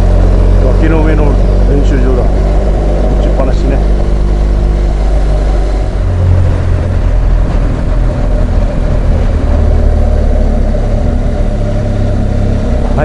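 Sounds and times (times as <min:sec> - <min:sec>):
motorcycle engine cruising: 0:00.0 - 0:13.0
wind rushing: 0:00.0 - 0:13.0.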